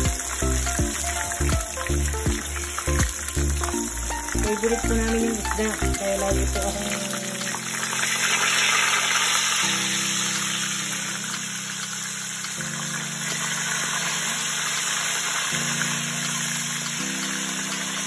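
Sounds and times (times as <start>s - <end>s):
background music held chords: 0.0s - 18.0s
fish sizzling in hot oil: 0.0s - 18.0s.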